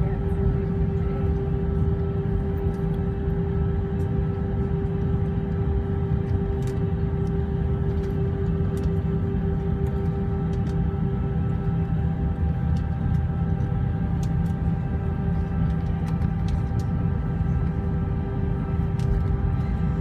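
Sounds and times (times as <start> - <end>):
aircraft rolling rumble: 0.0 - 20.0
engine and air system hum: 0.0 - 20.0.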